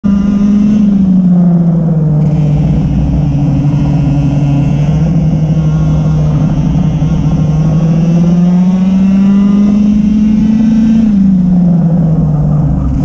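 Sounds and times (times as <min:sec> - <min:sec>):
racing kart engine: 0:00.0 - 0:13.0.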